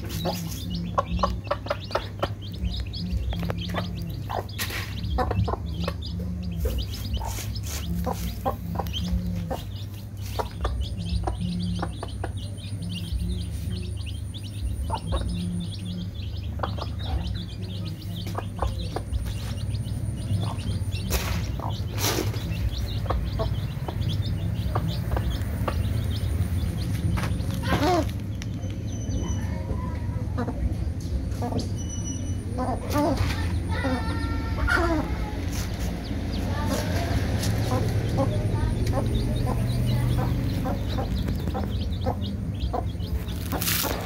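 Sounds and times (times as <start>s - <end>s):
chicks peeping: 0.0s - 44.0s
hen clucking: 0.0s - 44.0s
steady low hum: 0.0s - 44.0s.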